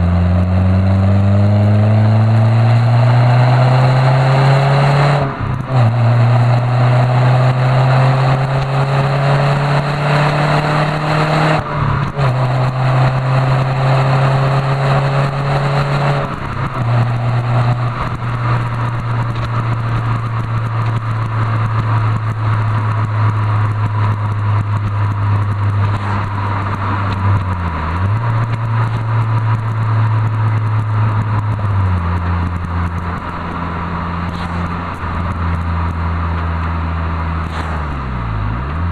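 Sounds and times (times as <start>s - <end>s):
car engine and sports exhaust accelerating: 0.0s - 38.9s.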